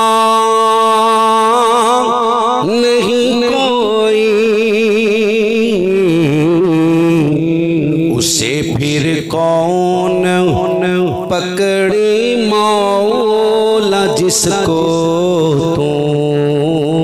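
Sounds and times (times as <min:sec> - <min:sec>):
man singing wordless melody: 0:00.0 - 0:17.0.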